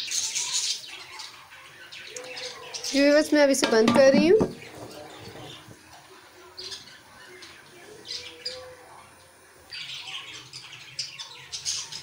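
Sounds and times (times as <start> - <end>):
birds chirping and squawking: 0.0 - 5.8, 6.5 - 12.0.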